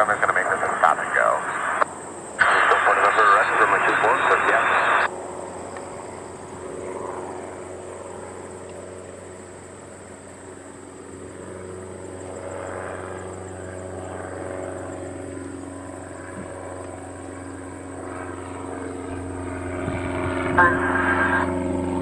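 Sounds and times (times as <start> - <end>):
aircraft engine humming and whining: 0.0 - 22.0.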